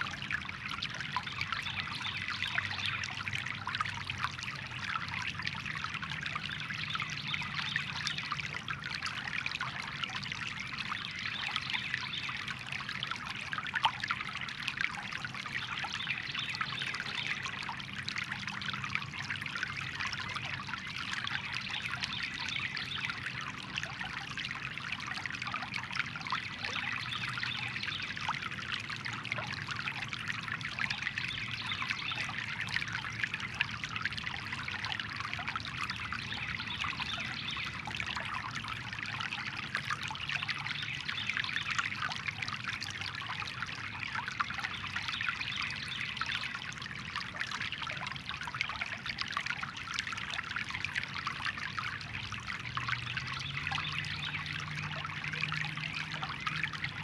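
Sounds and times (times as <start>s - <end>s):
brook babbling over rocks: 0.0s - 57.0s.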